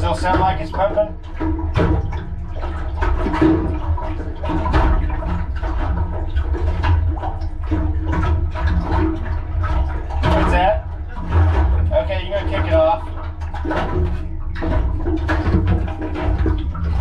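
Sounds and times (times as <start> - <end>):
steady low rumble: 0.0 - 17.0
water sloshing and gurgling: 0.0 - 17.0.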